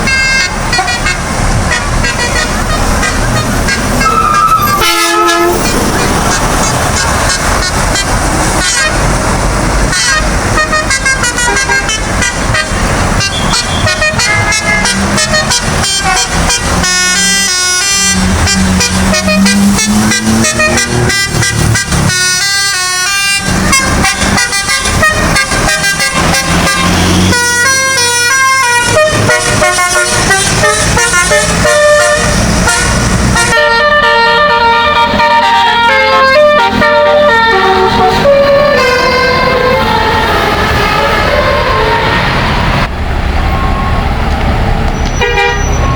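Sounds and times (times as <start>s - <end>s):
musical air horns: 0.0s - 42.8s, 45.0s - 45.9s
bus engine running: 0.0s - 45.9s.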